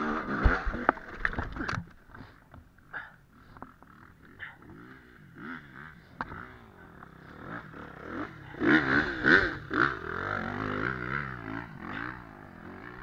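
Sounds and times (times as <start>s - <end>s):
dirt bike engine revving: 0.0s - 1.7s, 3.4s - 13.0s.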